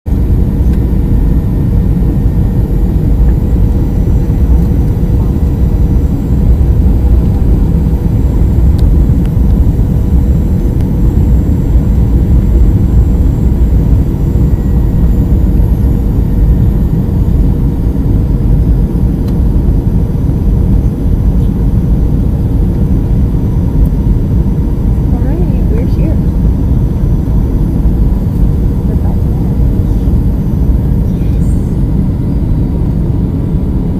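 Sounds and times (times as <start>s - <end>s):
airliner engines and airflow rumble: 0.1s - 33.9s
faint steady hum: 0.1s - 33.9s.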